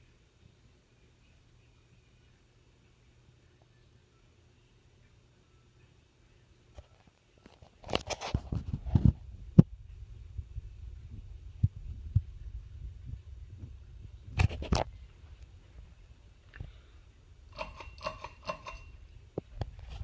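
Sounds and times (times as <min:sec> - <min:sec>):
ceiling fan rumbling: 0:00.0 - 0:20.0.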